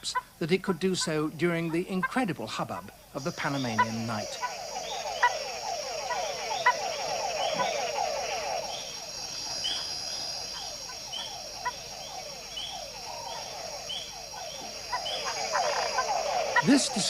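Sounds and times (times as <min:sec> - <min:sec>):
frogs calling: 0:00.0 - 0:17.0
high insect trill: 0:00.0 - 0:17.0.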